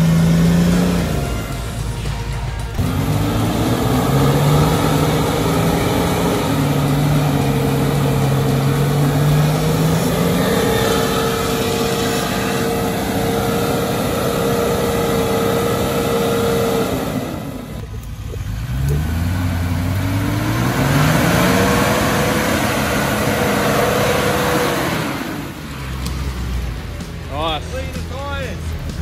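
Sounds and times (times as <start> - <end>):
engine revving with high whine: 0.0 - 29.0.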